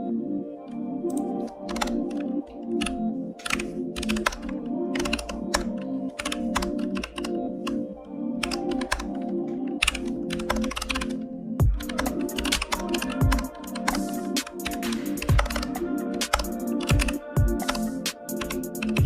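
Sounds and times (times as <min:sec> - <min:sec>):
background music: 0:00.0 - 0:19.0
keyboard typing: 0:00.6 - 0:19.0.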